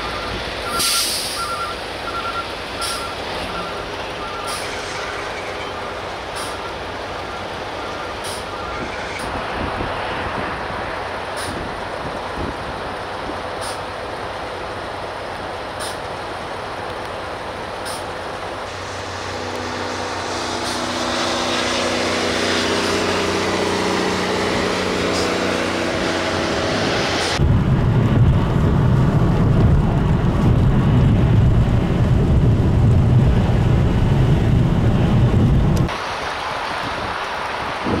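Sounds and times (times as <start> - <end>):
low rumbling noise: 0.0 - 38.0
truck diesel engine droning: 0.0 - 38.0.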